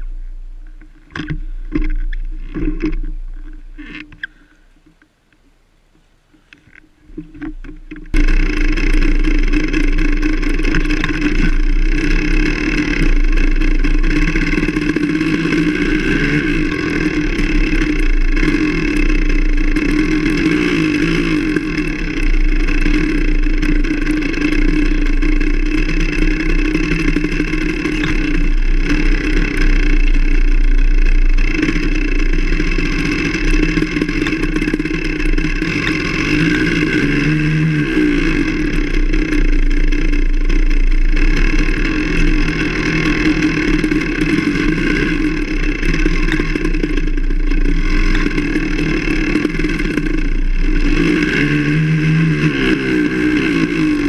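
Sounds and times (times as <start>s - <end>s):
motorcycle engine running: 0.0s - 4.6s, 6.7s - 54.0s.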